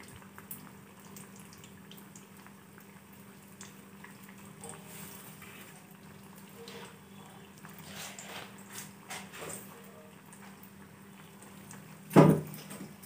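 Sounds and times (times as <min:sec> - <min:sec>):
food bubbling in hot oil: 0:00.0 - 0:13.0.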